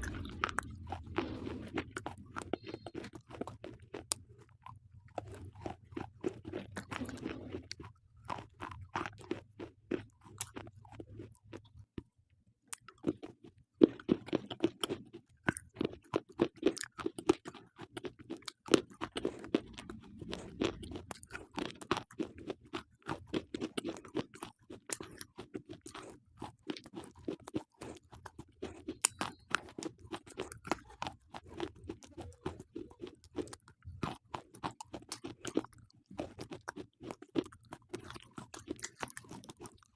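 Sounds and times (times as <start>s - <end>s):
chewing gritty crunching: 0.0s - 39.9s.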